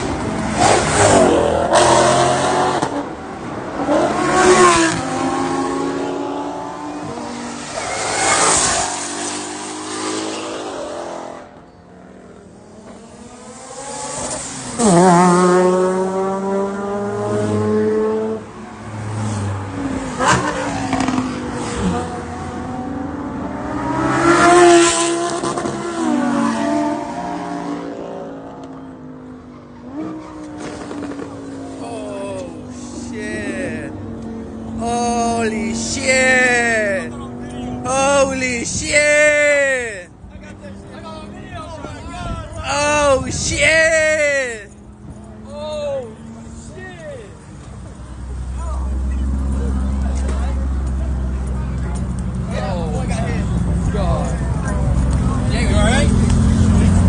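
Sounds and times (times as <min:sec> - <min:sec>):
car engines revving and accelerating: 0:00.0 - 0:57.0.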